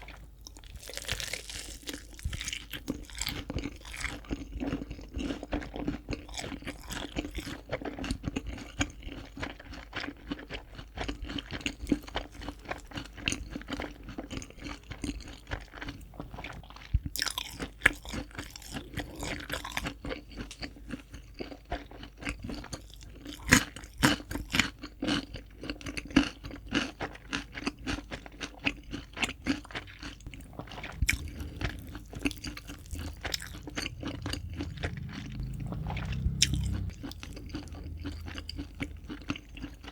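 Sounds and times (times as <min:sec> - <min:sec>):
crispy fried chicken crunching: 0:00.0 - 0:39.9.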